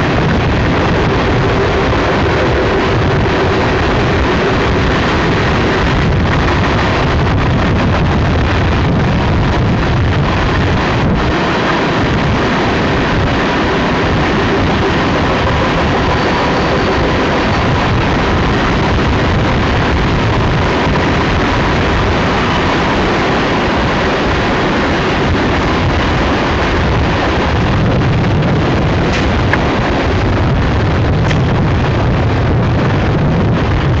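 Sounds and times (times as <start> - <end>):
distant train rumbling: 0.0 - 34.0
wind buffeting microphone: 0.0 - 34.0.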